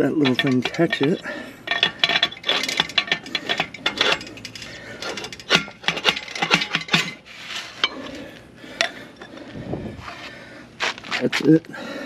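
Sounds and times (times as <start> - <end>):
metal scraping and clinking: 0.0 - 11.4.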